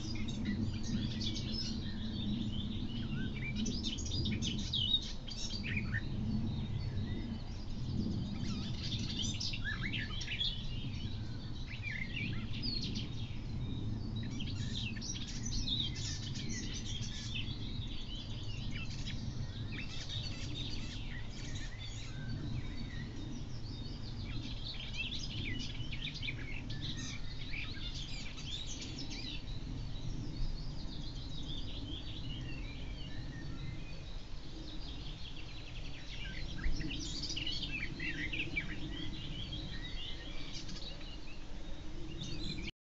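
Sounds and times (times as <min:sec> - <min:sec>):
songbirds chirping and singing: 0:00.0 - 0:42.7.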